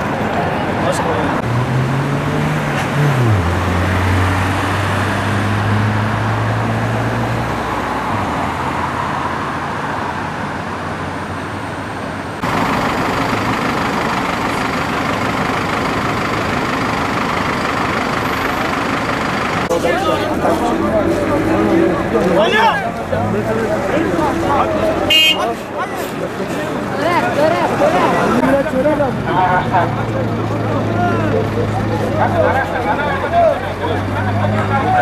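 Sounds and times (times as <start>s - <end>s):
road traffic noise: 0.0s - 35.0s
vehicle engine hum: 0.0s - 35.0s.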